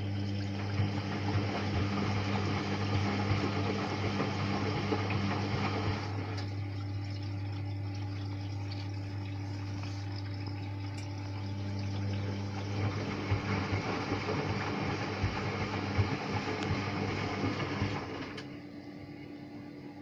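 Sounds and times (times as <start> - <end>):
water running: 0.0 - 18.5
washing machine pump humming: 0.0 - 20.0.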